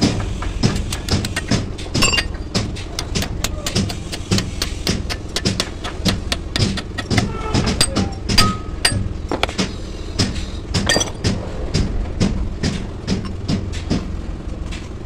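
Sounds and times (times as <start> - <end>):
hammer striking steel shaft: 0.0 - 14.1
low hum: 0.0 - 15.0.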